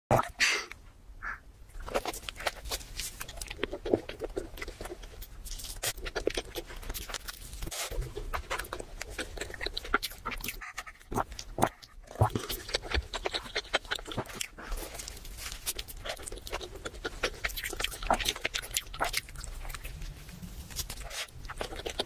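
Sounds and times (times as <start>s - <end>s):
chewing and wet mouth sounds: 1.7s - 22.0s.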